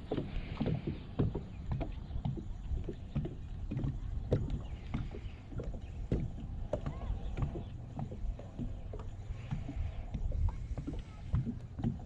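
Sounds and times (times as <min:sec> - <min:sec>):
low rumble: 0:00.0 - 0:12.0
waves slapping against boat hull: 0:00.0 - 0:12.0.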